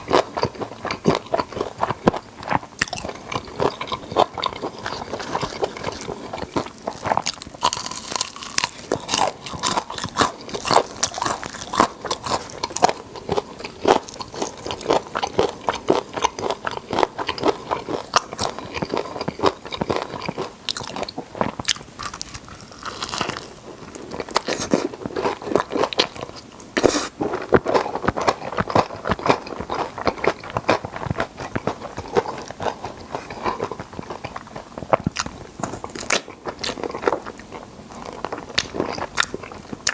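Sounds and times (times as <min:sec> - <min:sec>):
person chewing chicken: 0:00.0 - 0:39.9.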